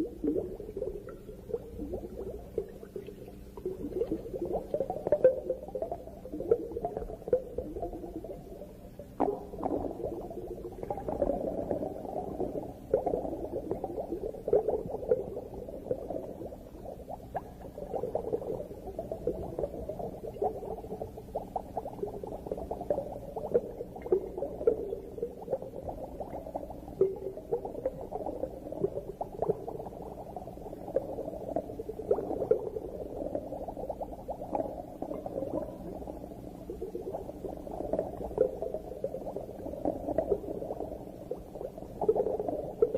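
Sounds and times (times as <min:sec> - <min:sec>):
bubbling and gurgling water: 0:00.0 - 0:42.9
small crackles and pops: 0:00.0 - 0:42.9.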